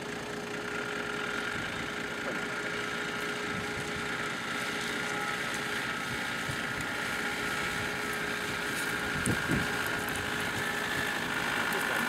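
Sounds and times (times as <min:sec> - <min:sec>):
off-road vehicle engine low revs: 0:00.0 - 0:12.0.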